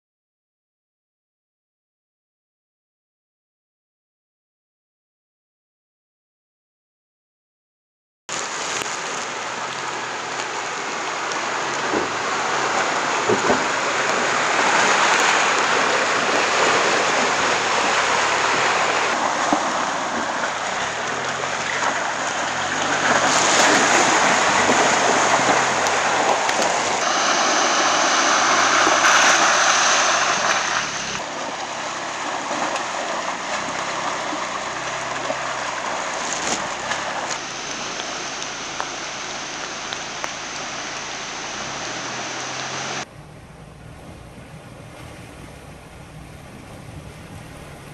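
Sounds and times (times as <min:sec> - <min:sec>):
tyres splashing through water: 0:08.3 - 0:47.9
engine running low: 0:08.4 - 0:47.9.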